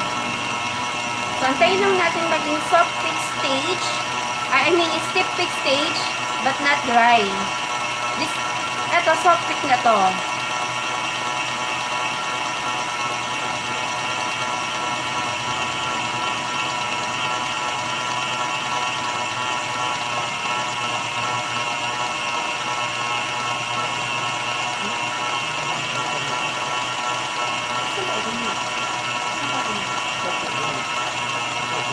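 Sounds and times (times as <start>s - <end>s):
stand mixer motor hum: 0.0s - 31.9s.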